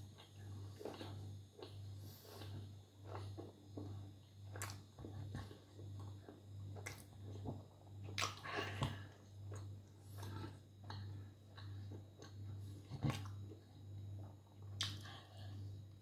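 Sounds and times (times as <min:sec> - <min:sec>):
chewing bread: 0:00.0 - 0:16.0.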